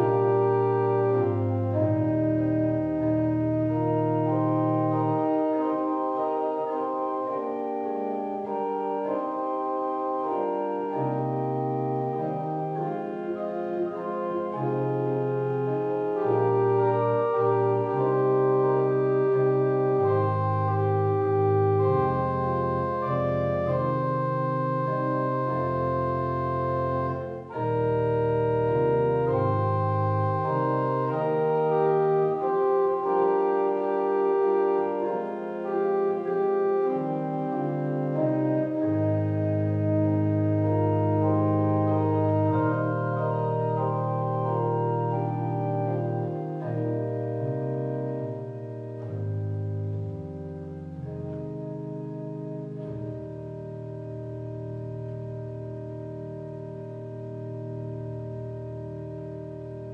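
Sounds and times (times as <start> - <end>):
deep organ pedal bass: 0.0 - 59.9
organ playing hymn chords: 0.0 - 59.9.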